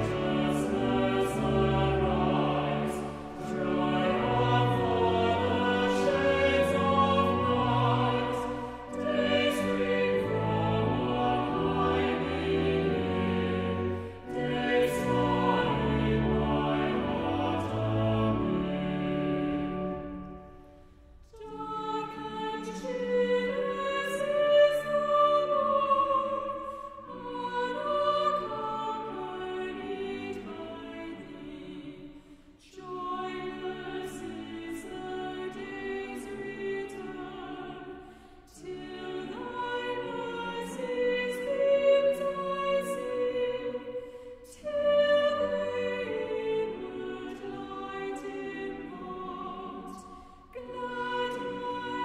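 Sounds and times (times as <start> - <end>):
hymn singing: 0.0 - 52.0.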